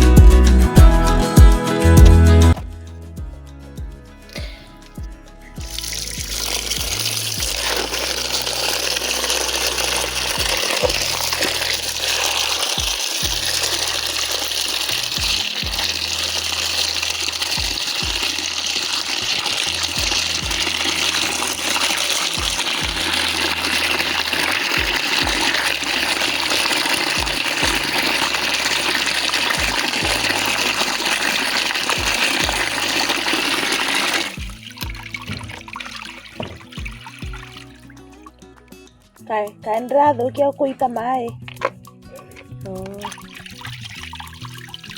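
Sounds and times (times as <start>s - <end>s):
water pouring: 4.2s - 38.5s, 41.4s - 44.9s.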